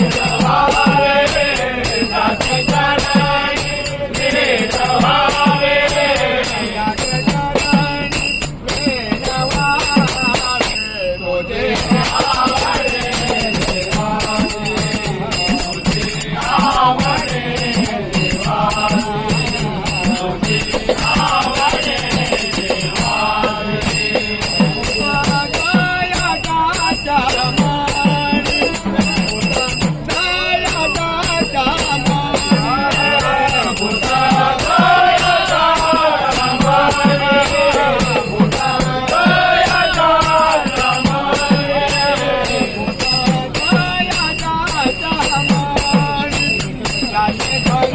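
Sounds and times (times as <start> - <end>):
small cymbals jingling: 0.0 - 47.9.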